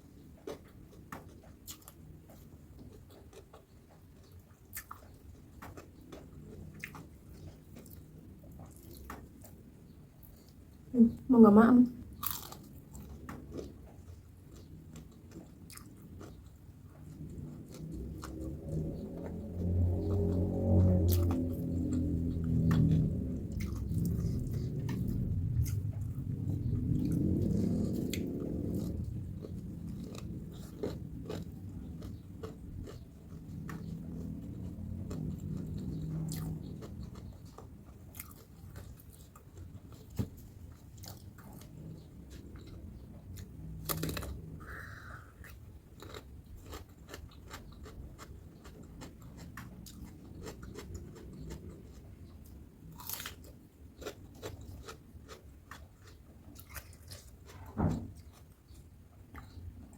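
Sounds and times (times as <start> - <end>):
crunchy chewing: 0.0 - 10.9, 12.0 - 59.9.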